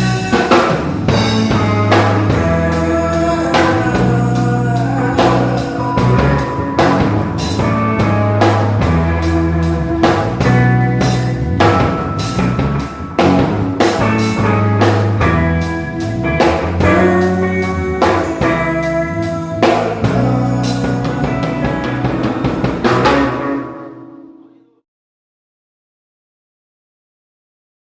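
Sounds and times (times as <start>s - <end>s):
rock band playing: 0.0s - 24.8s.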